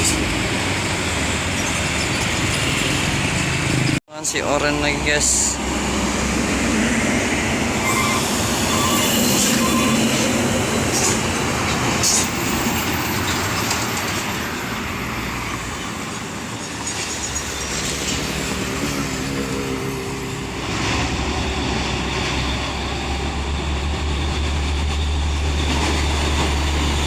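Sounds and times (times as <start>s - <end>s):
heavy truck passing: 0.0s - 27.0s.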